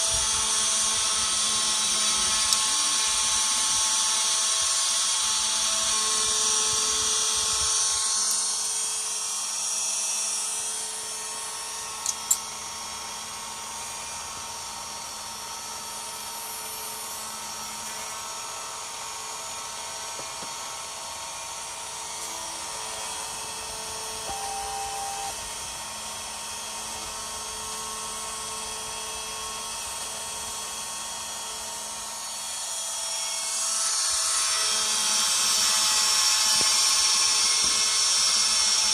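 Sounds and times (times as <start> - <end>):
spindle motor high whine: 0.0 - 38.9.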